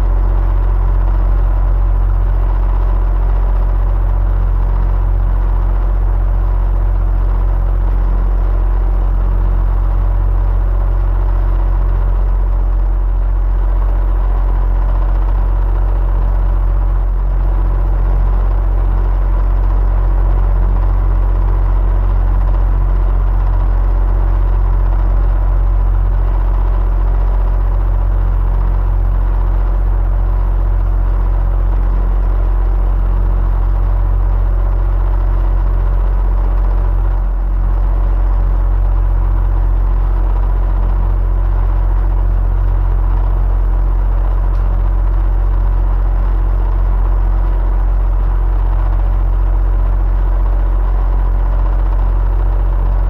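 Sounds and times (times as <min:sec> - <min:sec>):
electric fan humming: 0:00.0 - 0:53.0.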